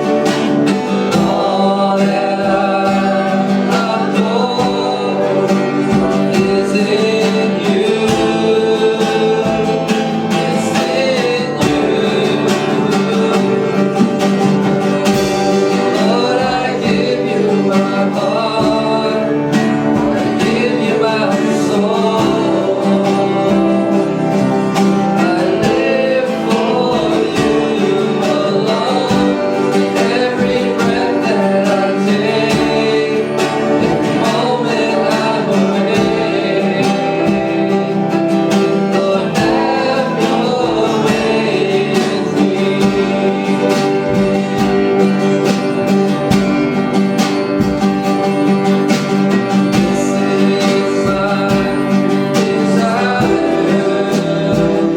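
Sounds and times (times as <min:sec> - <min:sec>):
guitar-led band playing: 0:00.0 - 0:54.9
person singing: 0:00.0 - 0:54.9.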